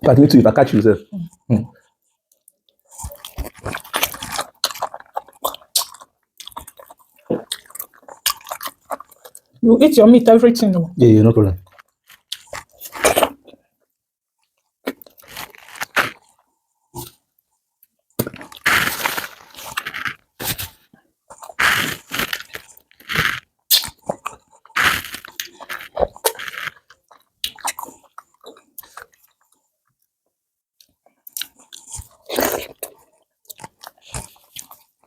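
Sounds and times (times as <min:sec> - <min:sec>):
chewing and crunching food: 0:01.8 - 0:09.6, 0:11.6 - 0:30.1, 0:30.8 - 0:35.0.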